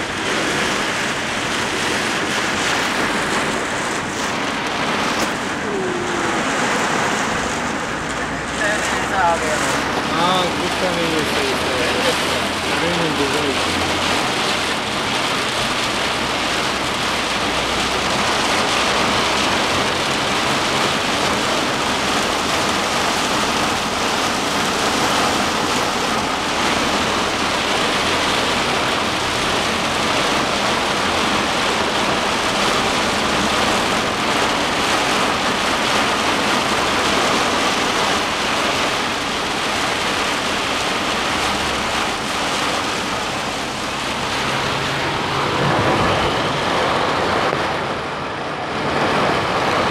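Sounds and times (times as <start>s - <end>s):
heavy rain on car roof: 0.0s - 49.9s.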